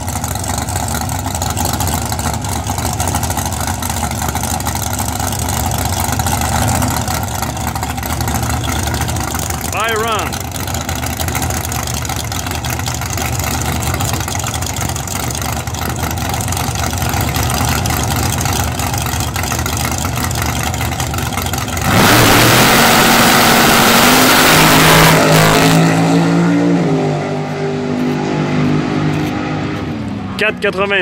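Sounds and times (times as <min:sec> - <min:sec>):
drag car engine launching: 0:00.3 - 0:27.3.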